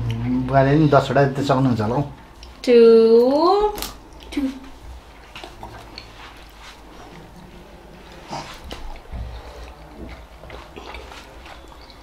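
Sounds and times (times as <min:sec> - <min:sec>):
man chewing food: 0:00.0 - 0:02.6, 0:04.0 - 0:12.0.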